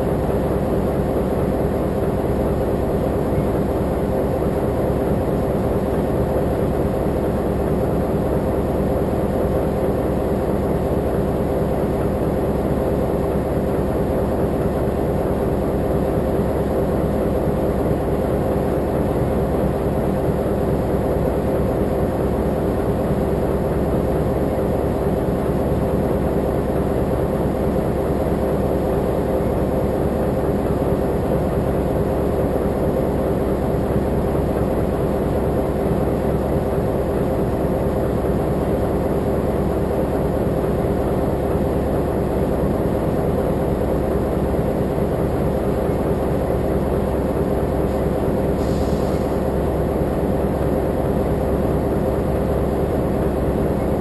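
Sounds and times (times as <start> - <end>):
diesel locomotive idling: 0.0 - 54.0.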